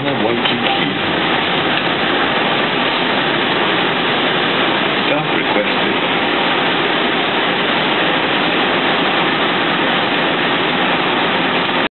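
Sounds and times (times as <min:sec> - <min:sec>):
bus engine hiss and rumble: 0:00.0 - 0:11.9.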